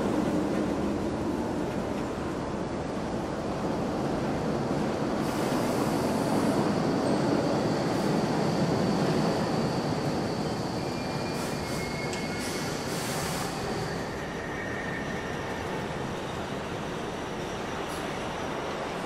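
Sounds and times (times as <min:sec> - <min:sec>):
high whine from rails: 0:00.0 - 0:19.0
subway train rumbling: 0:00.0 - 0:19.0.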